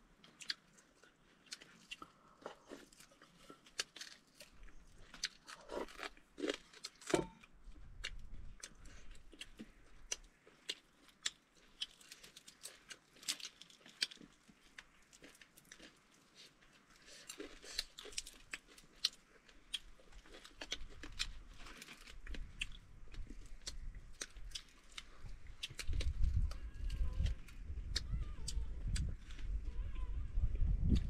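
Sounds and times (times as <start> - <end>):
chewing and crunching food: 0.0 - 31.0.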